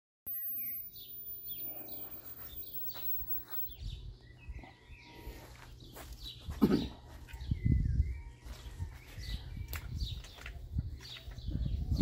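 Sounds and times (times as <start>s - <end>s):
birds chirping and singing: 0.3s - 12.0s.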